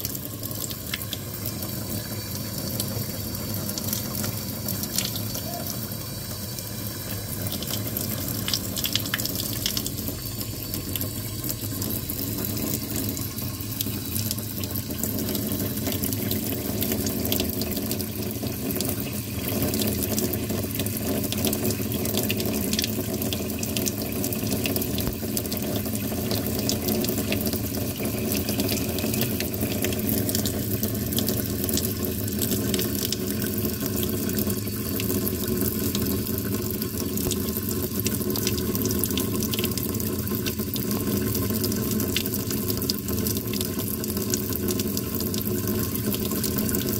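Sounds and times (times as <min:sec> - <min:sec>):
faucet water running into sink: 0:00.0 - 0:46.9.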